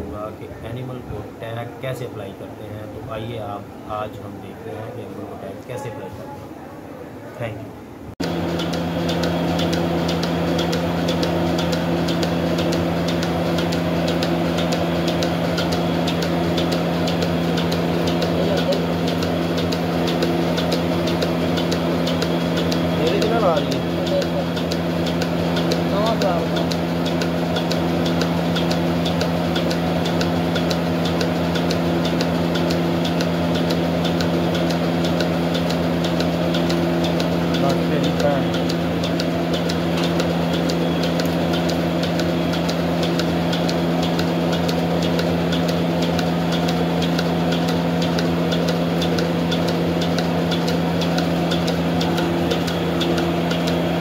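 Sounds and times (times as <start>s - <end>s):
steady mechanical hum: 0.0s - 54.0s
light ticking: 8.2s - 54.0s.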